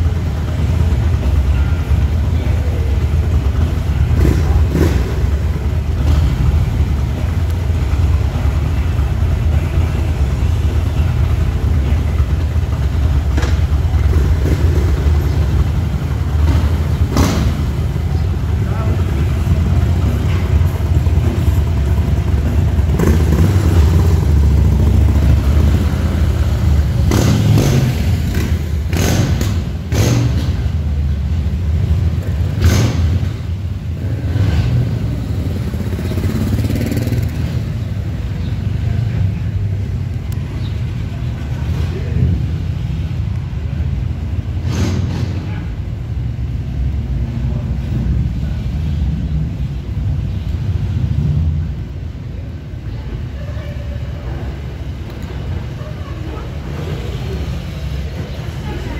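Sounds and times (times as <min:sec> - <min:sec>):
motorcycle exhaust rumble: 0:00.0 - 0:58.9.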